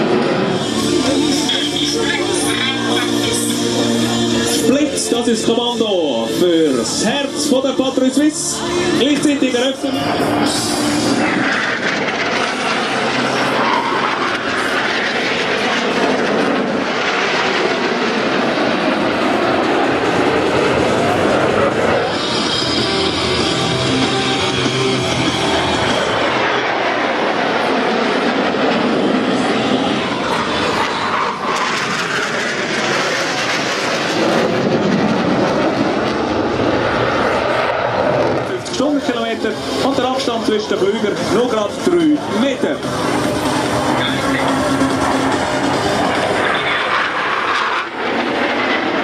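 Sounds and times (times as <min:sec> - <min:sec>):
jet fighters flying over: 0:00.0 - 0:49.0.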